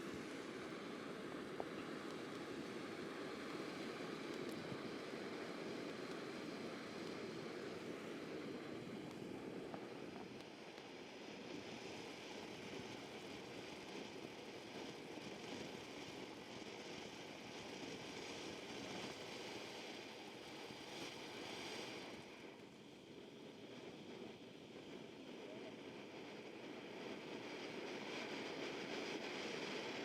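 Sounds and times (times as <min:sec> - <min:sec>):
firework fountain hissing: 0:00.0 - 0:30.0.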